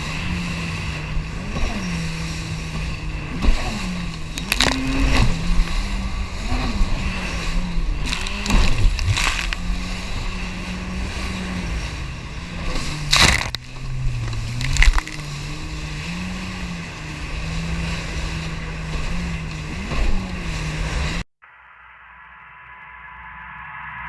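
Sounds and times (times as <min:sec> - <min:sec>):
watercraft engine humming: 0:00.0 - 0:21.2
wind noise: 0:00.0 - 0:21.2
water noise: 0:00.0 - 0:22.6.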